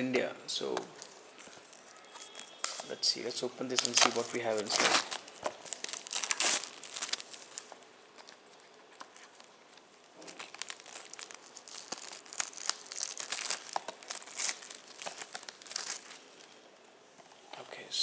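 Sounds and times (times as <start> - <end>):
plastic shrink-wrap crinkling: 0.9 - 16.8.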